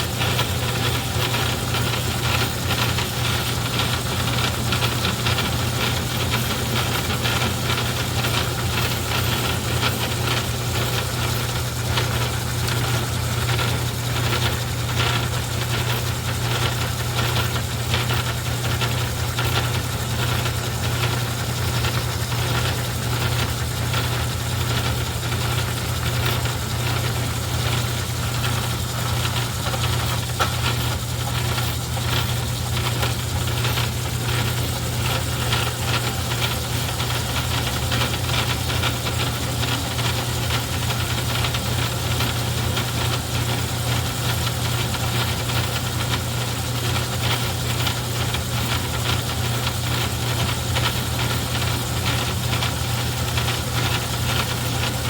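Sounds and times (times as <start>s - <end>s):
metal lathe motor humming: 0.0s - 46.3s
lathe drive rattling: 0.0s - 55.0s.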